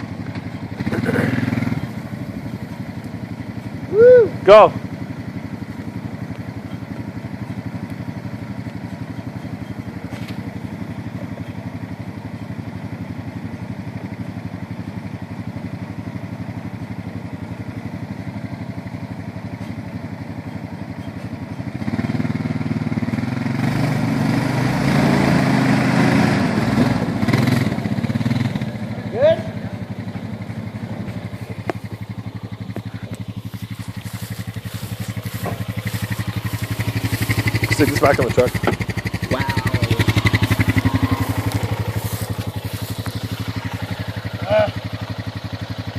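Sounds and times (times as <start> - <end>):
atv engine running under load: 0.0 - 45.9.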